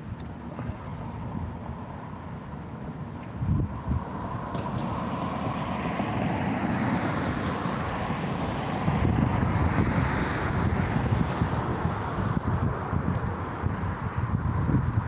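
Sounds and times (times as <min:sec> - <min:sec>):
rushing vehicle noise: 0:00.0 - 0:15.0
wind buffeting microphone: 0:00.0 - 0:15.0.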